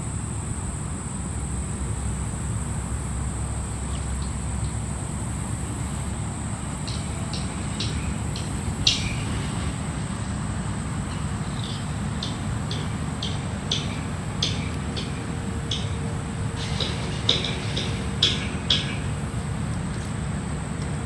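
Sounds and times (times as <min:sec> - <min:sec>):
high insect drone: 0:00.0 - 0:21.0
wind: 0:00.0 - 0:21.0.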